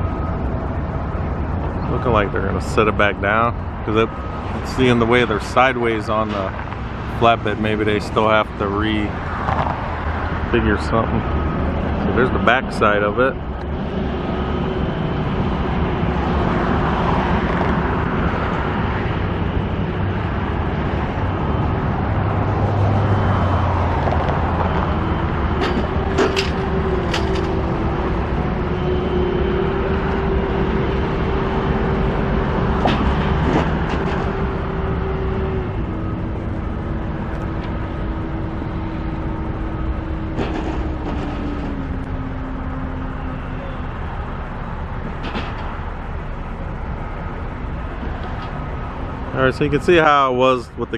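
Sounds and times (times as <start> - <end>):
heavy machinery engine running: 0.0 - 50.9.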